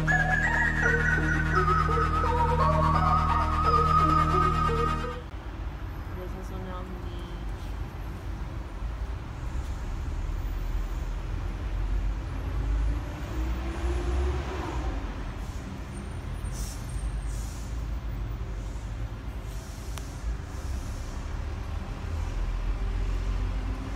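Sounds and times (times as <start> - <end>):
heavy vehicle engine pulling away: 0.0 - 5.3, 9.3 - 23.9
street traffic rumble: 0.0 - 23.9.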